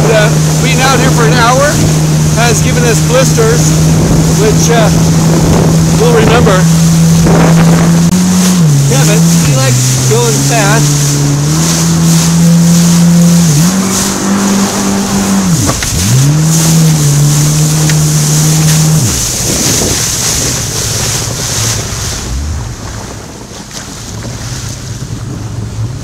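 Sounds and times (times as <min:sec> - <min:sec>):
jet ski engine running: 0:00.0 - 0:26.0
wind: 0:00.0 - 0:26.0.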